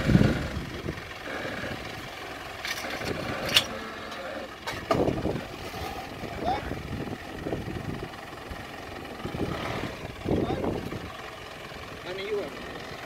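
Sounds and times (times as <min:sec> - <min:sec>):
car engine at low revs: 0:00.0 - 0:13.0.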